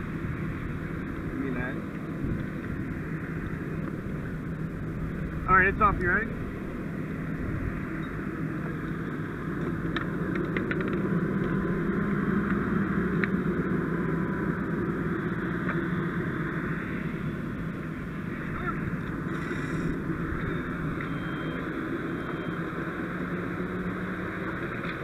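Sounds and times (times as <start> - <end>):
broad rushing noise: 0.0 - 25.0
diesel engine humming: 0.0 - 25.0.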